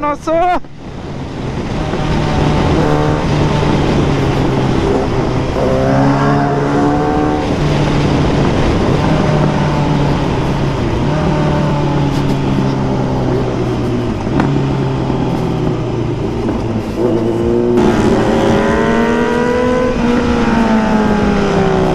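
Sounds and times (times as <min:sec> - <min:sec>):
wind and road noise: 0:00.0 - 0:21.9
motorcycle engine revving: 0:01.1 - 0:21.9.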